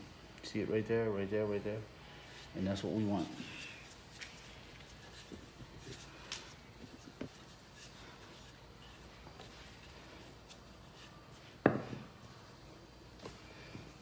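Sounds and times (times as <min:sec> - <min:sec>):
handling dough and utensils: 0:02.2 - 0:14.0.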